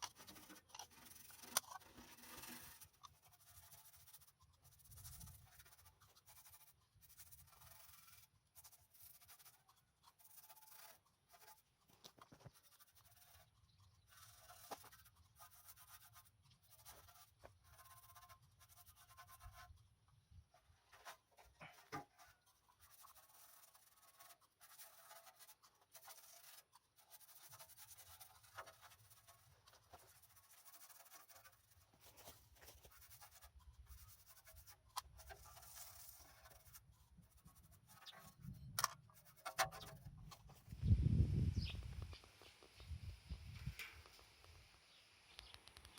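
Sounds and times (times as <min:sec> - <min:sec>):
faint scratching and rubbing: 0:00.0 - 0:45.9.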